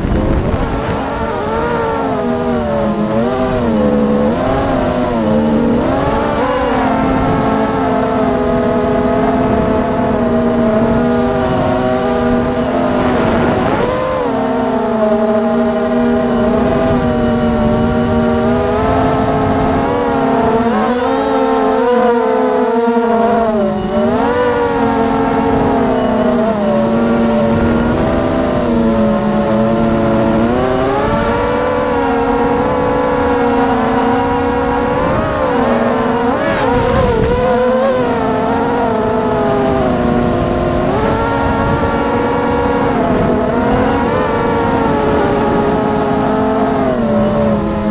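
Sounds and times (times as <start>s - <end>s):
drone motors whining: 0.0s - 47.9s
propeller wash rushing: 0.0s - 47.9s.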